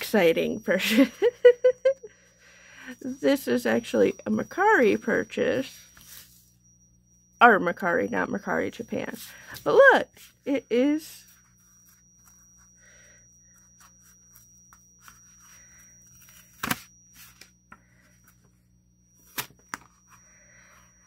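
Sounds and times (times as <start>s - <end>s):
faint high-pitched whine: 0.0s - 21.0s.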